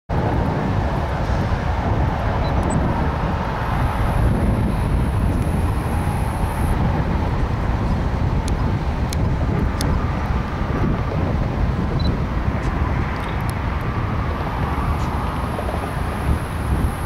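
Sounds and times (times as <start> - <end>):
diesel locomotives rumbling: 0.1 - 17.0.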